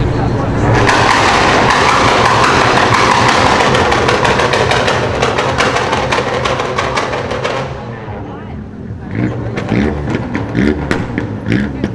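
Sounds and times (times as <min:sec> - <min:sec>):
car exhaust popping and crackling: 0:00.0 - 0:11.9.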